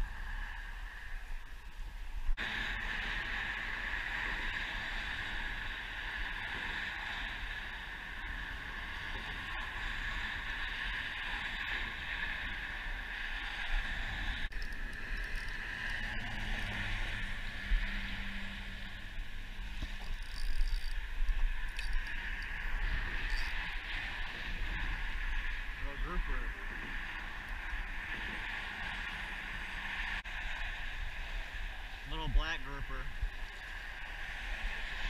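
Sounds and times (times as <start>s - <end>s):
low engine hum: 0.0s - 35.0s
traffic noise: 0.0s - 35.0s
wind against microphone: 0.0s - 35.0s.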